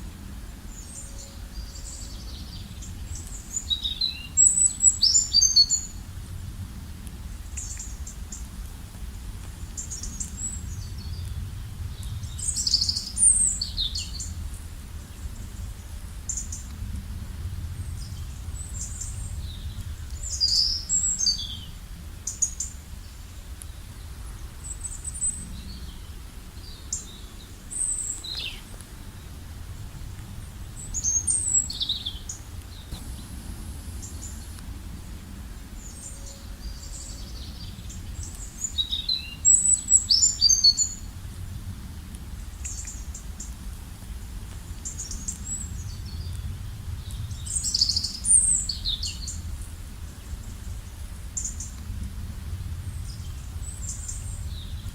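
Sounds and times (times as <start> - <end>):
low background rumble: 0.0 - 54.9
small birds chirping: 0.5 - 6.0, 7.3 - 8.6, 9.5 - 16.8, 17.8 - 41.1, 44.8 - 51.8.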